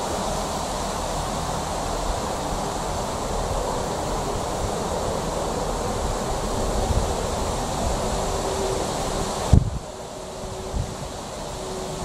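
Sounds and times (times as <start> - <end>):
distant train approaching: 0.0 - 12.0
wind on microphone: 0.0 - 12.0.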